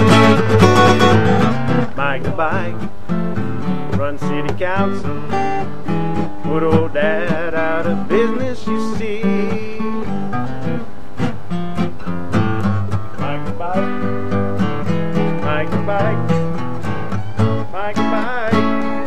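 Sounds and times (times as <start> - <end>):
country song with strummed guitar: 0.0 - 19.0.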